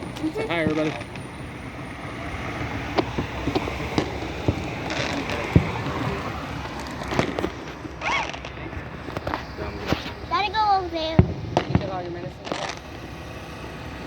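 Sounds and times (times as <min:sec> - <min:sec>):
distant fireworks popping: 0:00.0 - 0:14.0
outdoor background noise: 0:00.0 - 0:14.0.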